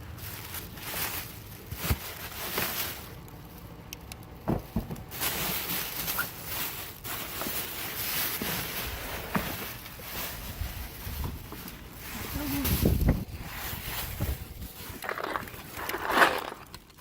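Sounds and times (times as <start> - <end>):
rummaging through food waste: 0.0 - 17.0.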